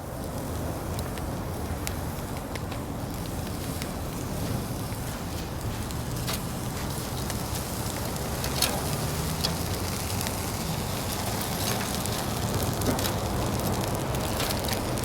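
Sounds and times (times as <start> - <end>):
fire crackling: 0.0 - 15.0
fire popping: 0.0 - 15.0.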